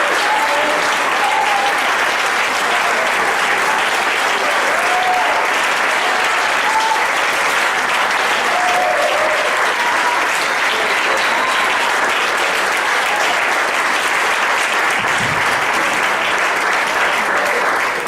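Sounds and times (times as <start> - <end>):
congregation applauding: 0.0 - 18.0.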